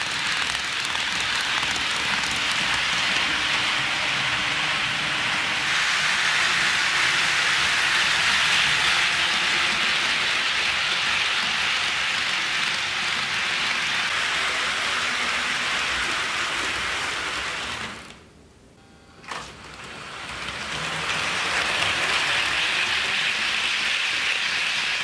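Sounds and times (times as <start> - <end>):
model train wheels rolling on rails: 0.0 - 18.2, 19.6 - 25.0.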